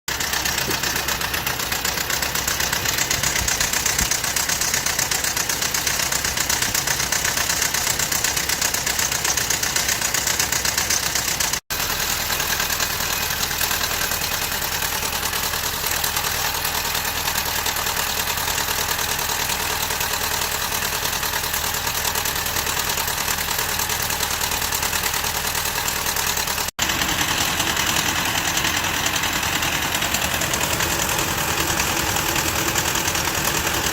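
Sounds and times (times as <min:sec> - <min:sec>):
engine running with rapid ticking: 0:00.0 - 0:33.9.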